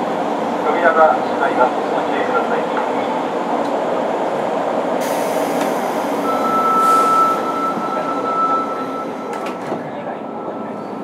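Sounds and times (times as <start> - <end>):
train wheels rumbling in tunnel: 0.0 - 11.0.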